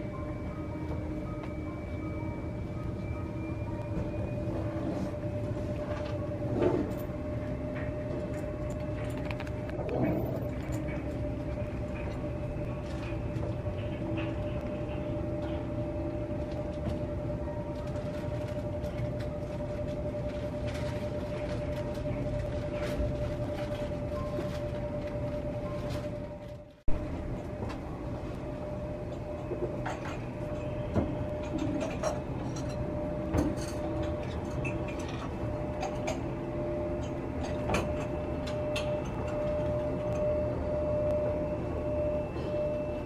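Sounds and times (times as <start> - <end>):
jet engine whine: 0.0 - 43.0.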